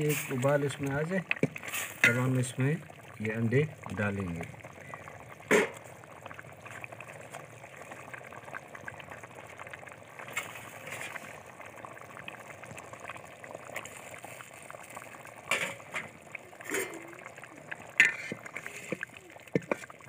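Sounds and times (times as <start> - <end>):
water boiling and bubbling: 0.0 - 20.0.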